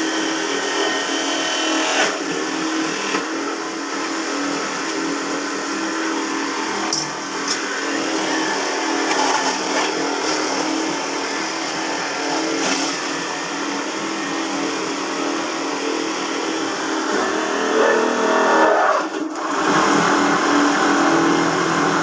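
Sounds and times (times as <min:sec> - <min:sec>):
grinder motor humming and whirring: 0:00.0 - 0:22.0.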